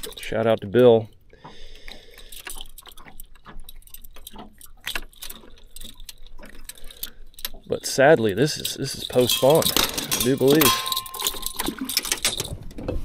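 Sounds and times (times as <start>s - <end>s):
metal fish stringer clinking: 0.0s - 0.9s, 1.8s - 12.6s.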